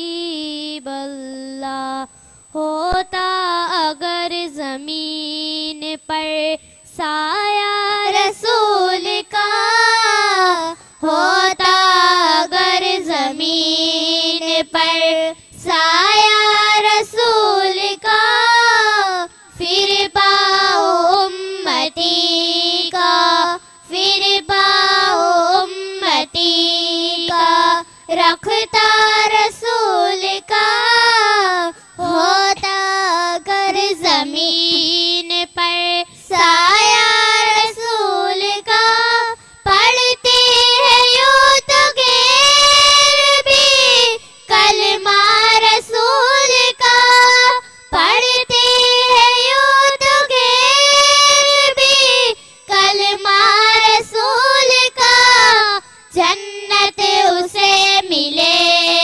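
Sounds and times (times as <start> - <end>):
girls singing devotional song: 0.0 - 59.0.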